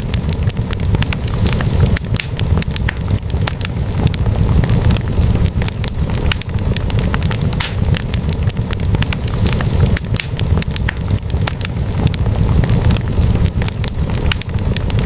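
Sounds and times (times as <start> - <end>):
fire flames rumbling: 0.0 - 15.0
logs popping and crackling: 0.0 - 15.0.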